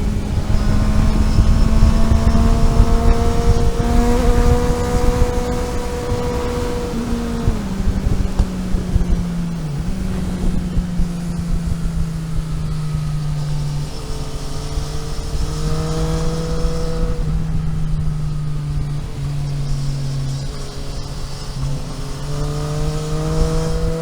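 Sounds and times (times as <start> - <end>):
road and wind rumble: 0.0 - 24.0
vehicle engine running: 0.0 - 24.0.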